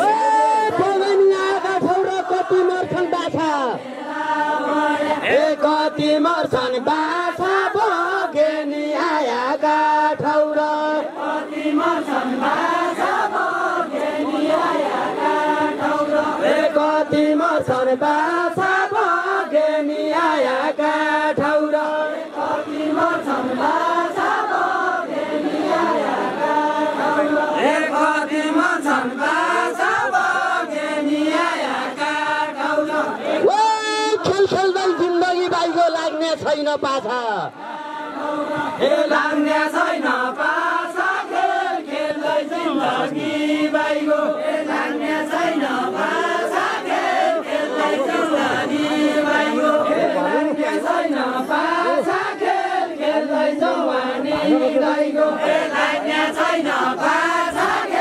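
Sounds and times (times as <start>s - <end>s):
men singing folk song chorus: 0.0s - 35.7s, 37.5s - 58.0s.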